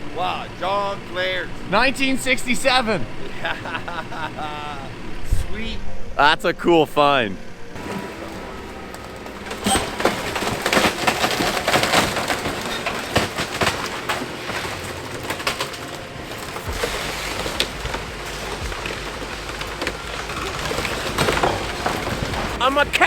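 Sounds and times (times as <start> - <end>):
wood cracking and splintering: 0.0 - 4.6, 7.8 - 23.0
low machine rumble: 0.0 - 23.0.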